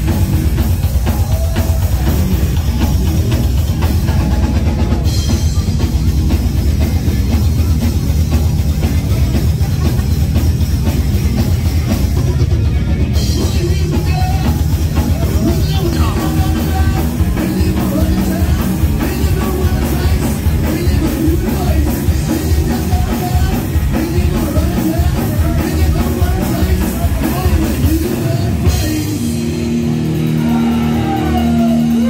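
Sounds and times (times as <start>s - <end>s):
heavy rock music with singing: 0.0s - 32.0s.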